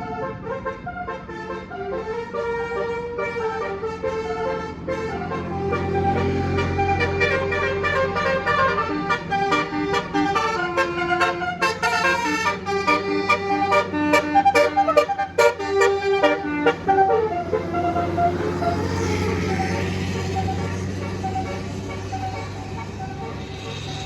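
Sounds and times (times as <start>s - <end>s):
bus horn playing melody: 0.0s - 24.0s
vehicle noise low hum: 0.0s - 24.0s.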